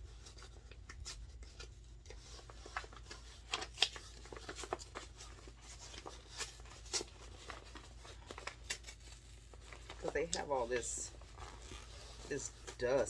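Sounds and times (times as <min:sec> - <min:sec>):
paper envelope crackling and rustling: 0:00.0 - 0:13.0
paper tearing: 0:00.0 - 0:13.0.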